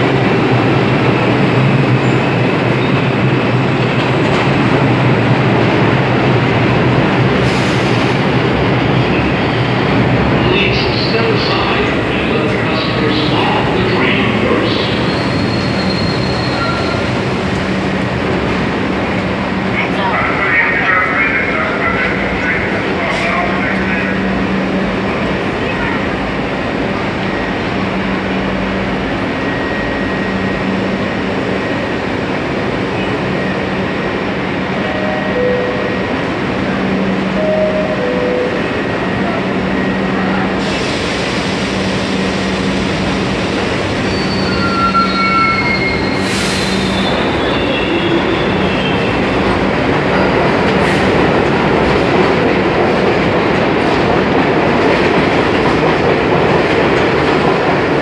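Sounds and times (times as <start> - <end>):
subway train rumbling: 0.0 - 58.0.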